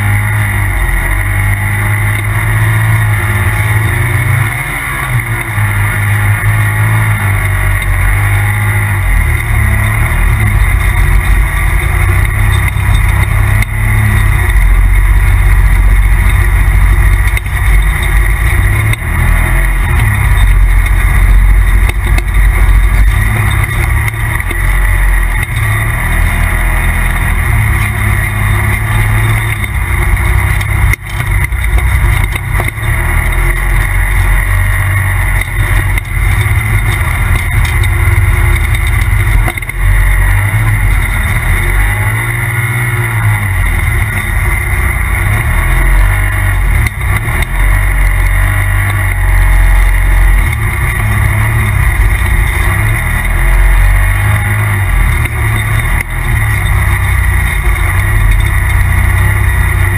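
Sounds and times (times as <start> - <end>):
loud engine running: 0.0 - 59.9.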